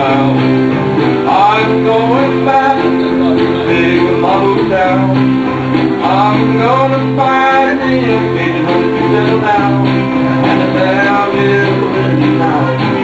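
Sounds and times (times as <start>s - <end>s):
acoustic guitar strumming: 0.0s - 13.0s
bending melody line: 0.0s - 13.0s.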